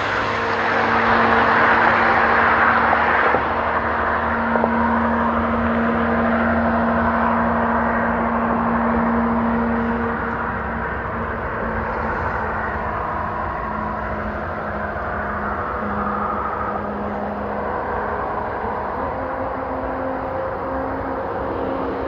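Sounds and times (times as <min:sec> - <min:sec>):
car engine humming steadily: 0:00.0 - 0:22.0
rushing noise: 0:00.0 - 0:22.0.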